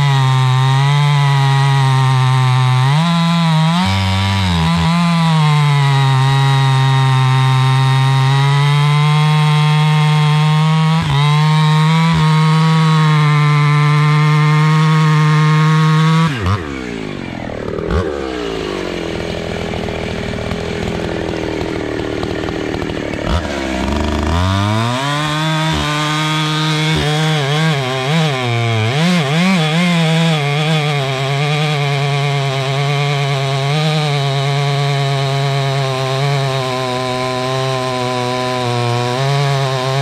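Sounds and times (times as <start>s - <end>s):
chainsaw cutting log: 0.0s - 40.0s.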